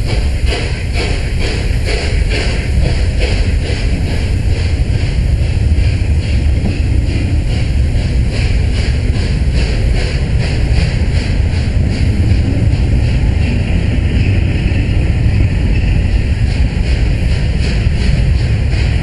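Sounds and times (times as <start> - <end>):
rhythmic hiss: 0.0 - 19.0
train coaches rumbling past: 0.0 - 19.0
wind buffeting microphone: 0.0 - 19.0.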